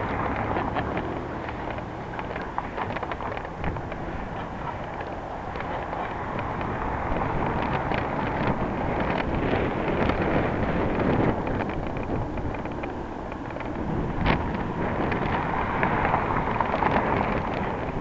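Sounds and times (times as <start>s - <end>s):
bike rattles and clicks: 0.0s - 18.0s
road noise: 0.0s - 18.0s
wind on microphone: 0.0s - 18.0s.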